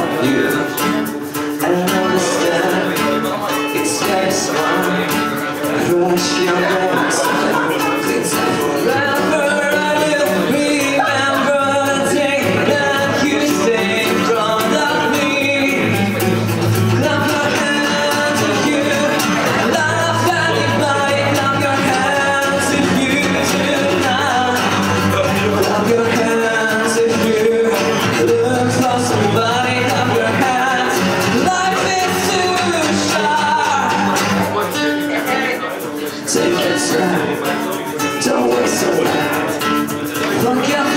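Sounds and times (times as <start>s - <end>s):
bass guitar: 0.0s - 40.9s
drums: 0.0s - 40.9s
guitar: 0.0s - 40.9s
person singing: 0.0s - 40.9s.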